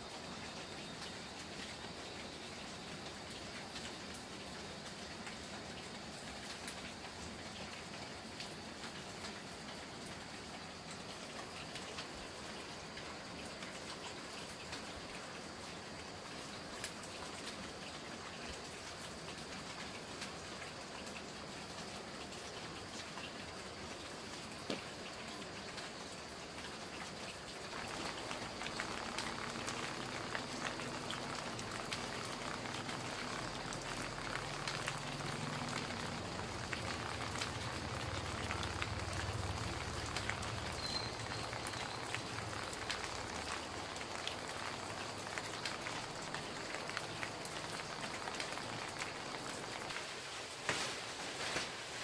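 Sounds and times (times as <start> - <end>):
rain pattering: 0.0 - 52.0.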